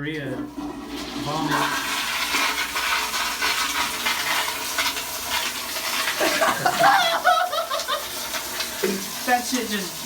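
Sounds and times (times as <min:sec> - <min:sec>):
toilet flushing: 0:00.0 - 0:10.0.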